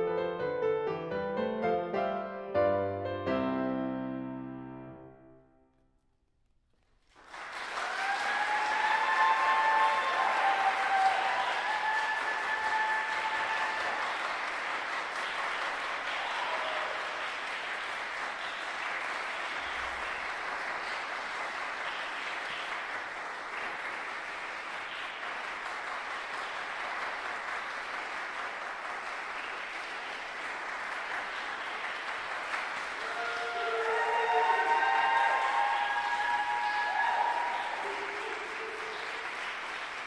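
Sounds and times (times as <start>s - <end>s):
audience applauding: 6.8s - 40.0s.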